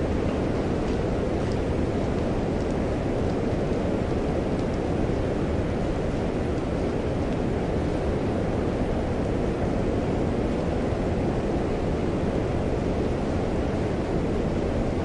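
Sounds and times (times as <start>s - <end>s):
rain: 0.0s - 15.0s
wind: 0.0s - 15.0s.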